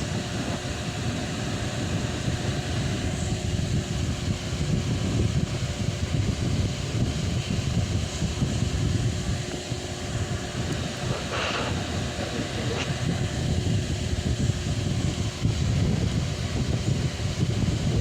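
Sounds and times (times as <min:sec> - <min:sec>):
faint fan motor hum: 0:00.0 - 0:18.0
fan airflow buffeting microphone: 0:00.0 - 0:18.0.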